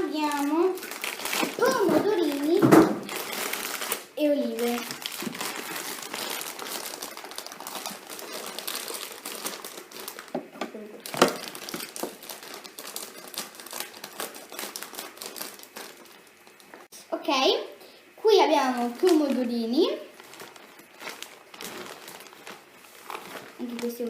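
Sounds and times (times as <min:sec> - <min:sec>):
plastic packaging crinkling: 0:00.0 - 0:16.9, 0:18.6 - 0:24.0.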